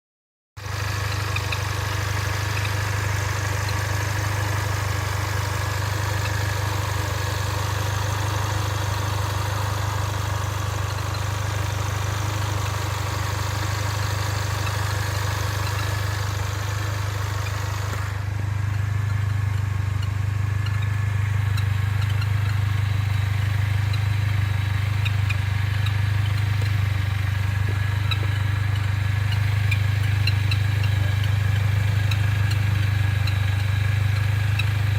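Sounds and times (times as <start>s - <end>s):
car engine drone: 0.6s - 34.9s
engine hiss: 0.6s - 34.9s.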